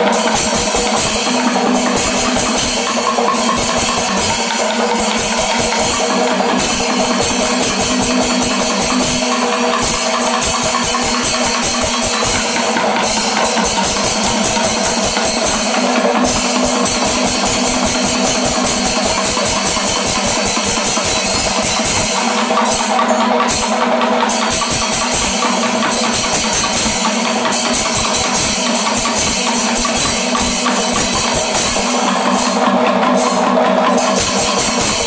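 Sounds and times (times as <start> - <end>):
cymbals clashing: 0.0 - 35.0
fast drum strokes: 0.0 - 35.0.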